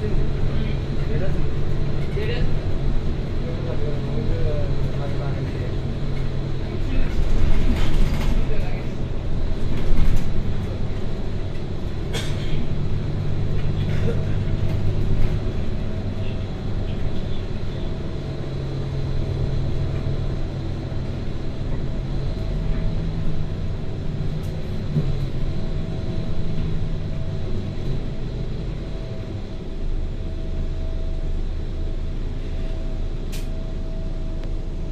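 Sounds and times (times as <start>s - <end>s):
bus engine and road noise: 0.0s - 34.9s.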